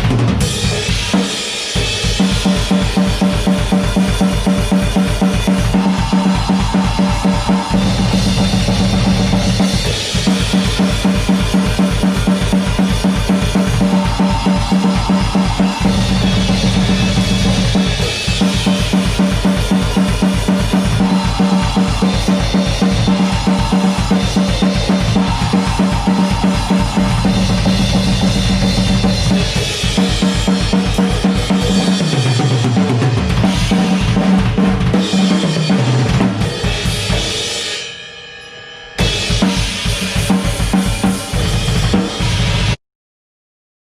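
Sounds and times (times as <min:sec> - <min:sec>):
fast bass drum strokes: 0:00.0 - 0:37.6, 0:39.0 - 0:42.8.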